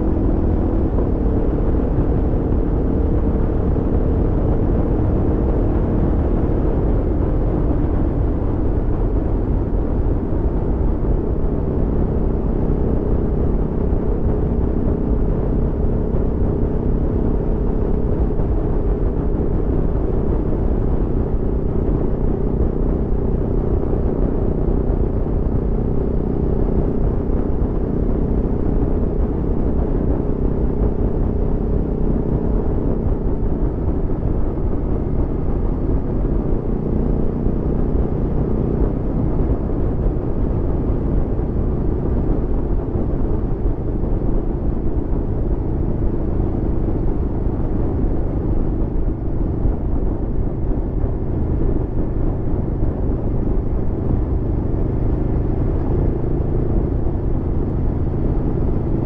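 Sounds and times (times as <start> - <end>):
motorcycle engine running steadily: 0.0 - 59.0.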